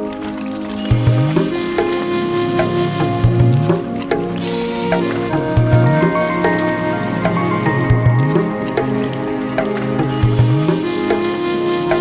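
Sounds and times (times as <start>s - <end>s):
background music: 0.0s - 12.0s
percussion strikes: 0.8s - 12.0s.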